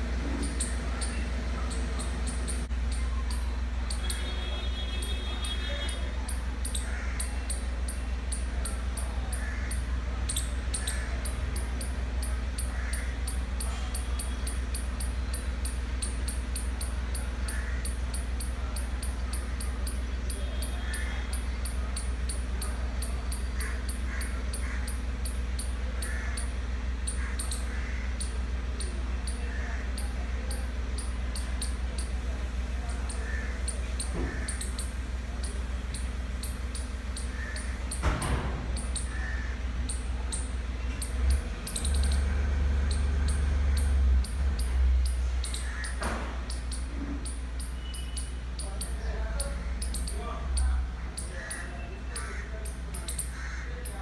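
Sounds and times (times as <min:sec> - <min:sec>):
animal calls: 0:00.0 - 0:54.0
steady low hum: 0:00.0 - 0:54.0.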